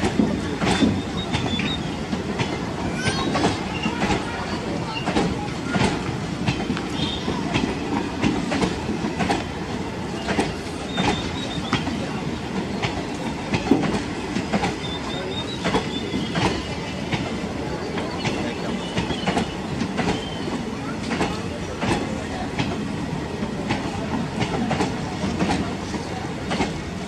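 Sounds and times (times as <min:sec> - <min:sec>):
train wheels clacking over rail joints: 0:00.0 - 0:27.0.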